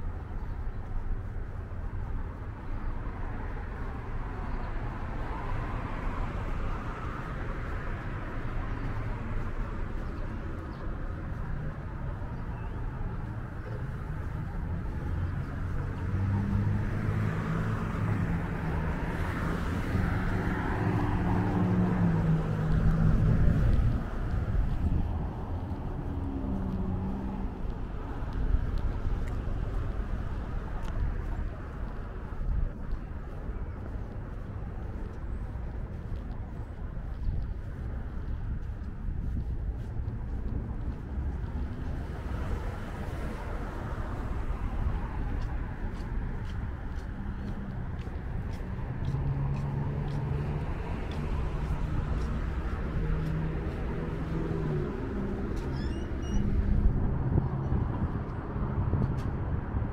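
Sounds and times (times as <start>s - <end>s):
traffic rumble: 0.0s - 59.9s
vehicle engine hum: 0.0s - 59.9s.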